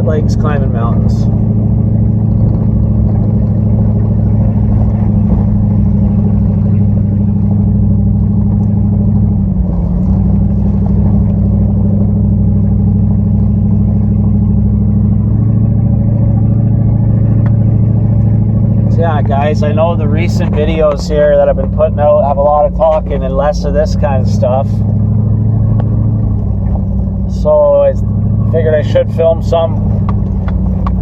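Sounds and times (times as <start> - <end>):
pickup truck engine droning: 0.0 - 31.0.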